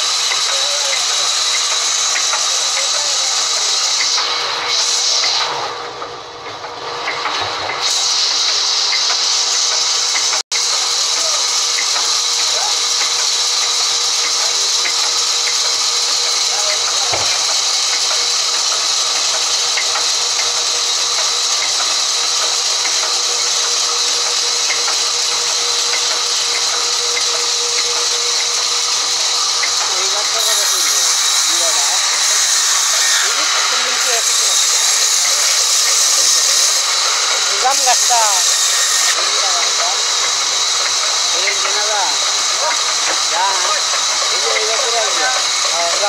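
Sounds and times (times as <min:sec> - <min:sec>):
band saw cutting log: 0:00.0 - 0:46.0.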